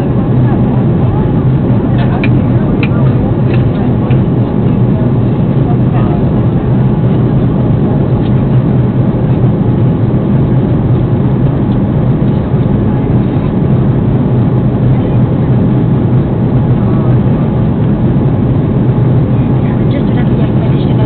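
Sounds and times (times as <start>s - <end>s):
airliner cabin engine drone: 0.0s - 21.0s.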